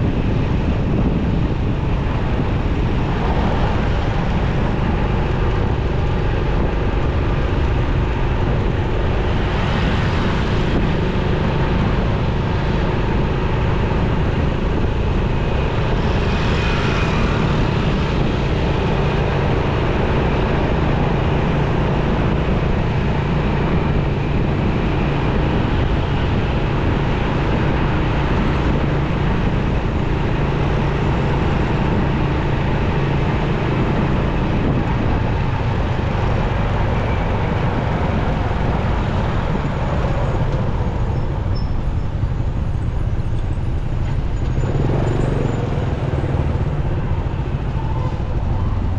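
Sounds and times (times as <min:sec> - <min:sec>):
city traffic noise: 0:00.0 - 0:48.9
motorcycle engine hum: 0:00.0 - 0:48.9.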